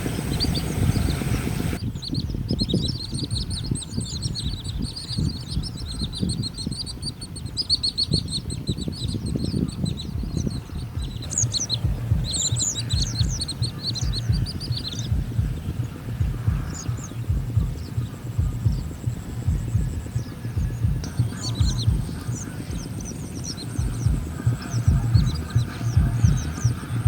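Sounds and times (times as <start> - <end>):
low uneven rumble: 0.0 - 27.0
small birds chirping: 0.0 - 27.0.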